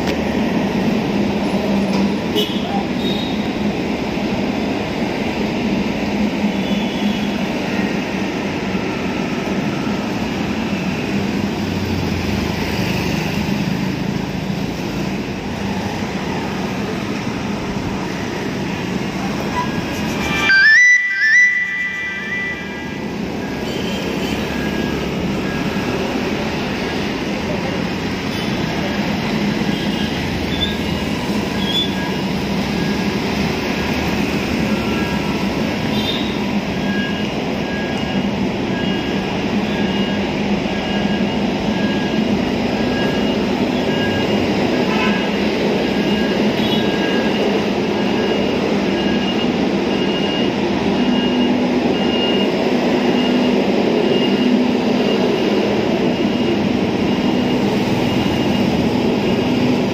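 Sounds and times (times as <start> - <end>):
heavy engine noise: 0.0 - 59.9
road traffic: 0.0 - 59.9.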